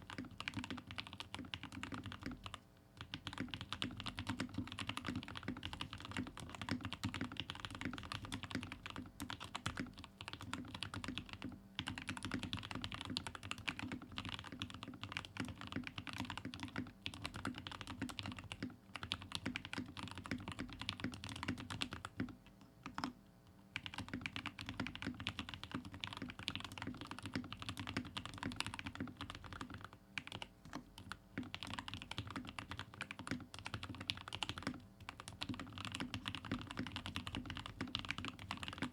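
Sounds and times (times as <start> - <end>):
mechanical keyboard typing: 0.0 - 23.2, 23.8 - 38.9.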